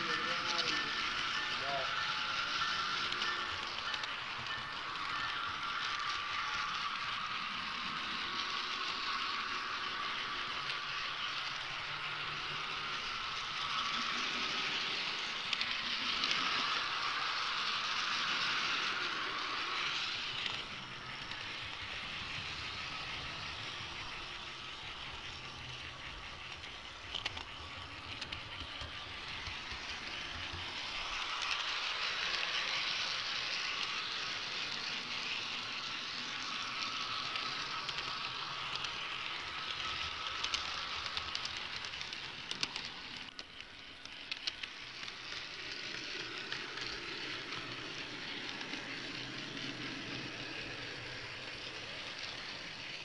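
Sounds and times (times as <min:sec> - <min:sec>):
model train wheels rushing: 0:00.0 - 0:53.0.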